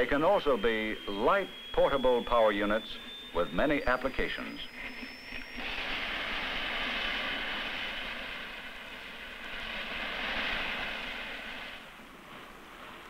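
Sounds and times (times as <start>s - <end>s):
hose jets spraying hiss: 0.0s - 13.0s.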